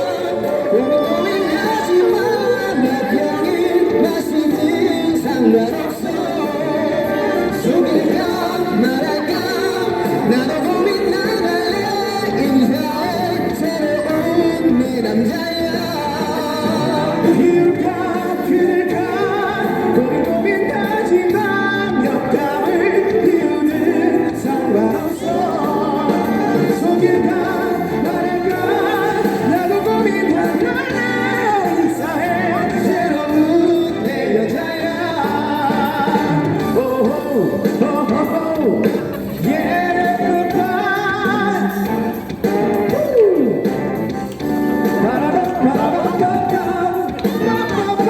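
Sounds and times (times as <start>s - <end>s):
loud musical accompaniment: 0.0s - 48.0s
person singing live pop song: 0.0s - 48.0s.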